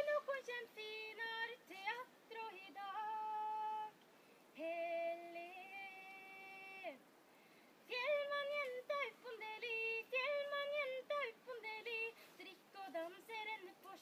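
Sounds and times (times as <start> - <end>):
woman singing unaccompanied: 0.0 - 7.1, 7.8 - 14.0.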